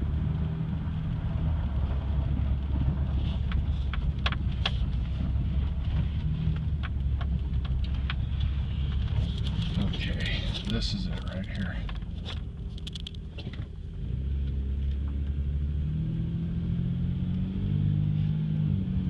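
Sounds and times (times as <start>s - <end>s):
truck engine rumble from cab: 0.0s - 19.0s.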